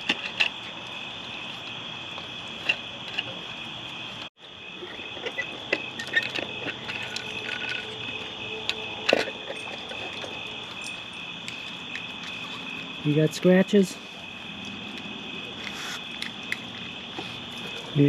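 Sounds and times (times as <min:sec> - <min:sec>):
night insects trilling: 0:00.0 - 0:18.0.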